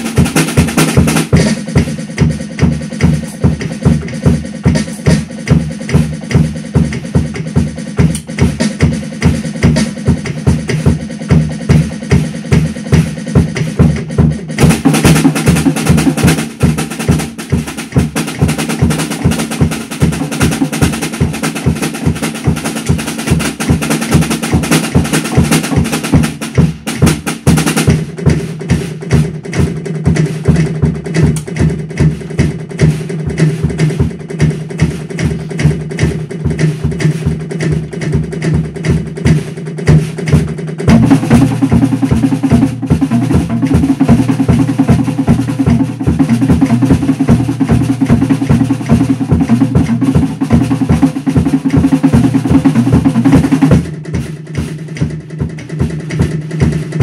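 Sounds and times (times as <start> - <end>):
drum kits playing a beat: 0.0 - 57.0.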